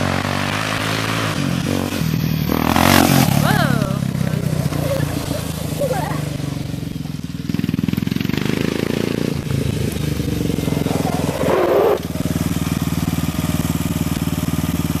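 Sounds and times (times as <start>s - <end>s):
quad engine idling: 1.7s - 15.0s.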